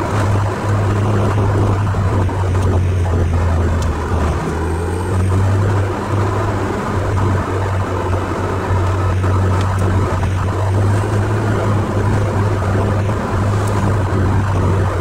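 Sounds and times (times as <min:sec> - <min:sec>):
car engine droning: 0:00.0 - 0:15.0
road noise: 0:00.0 - 0:15.0.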